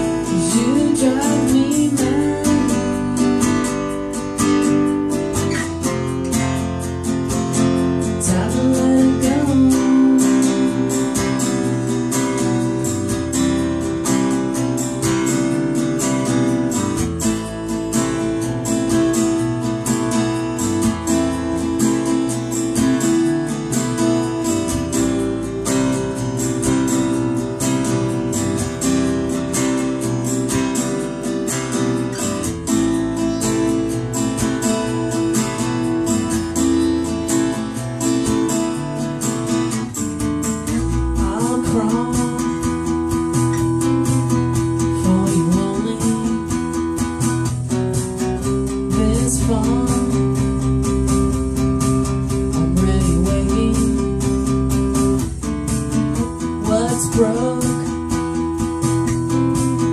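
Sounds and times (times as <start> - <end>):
acoustic guitar strummed: 0.0 - 59.9
electric bass guitar low notes: 0.0 - 59.9.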